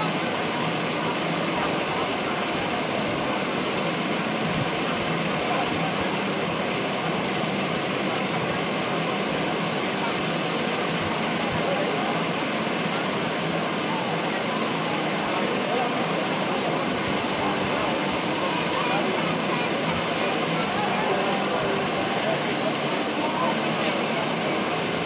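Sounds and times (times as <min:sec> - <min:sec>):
crowd hubbub: 0:00.0 - 0:25.0.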